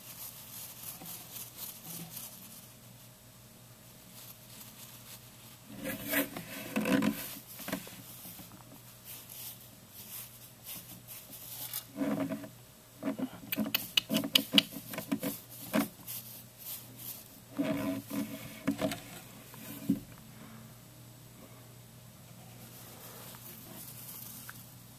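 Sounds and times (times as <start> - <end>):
hamster scratching and rustling: 0.0 - 3.1, 4.1 - 20.1, 22.3 - 24.7.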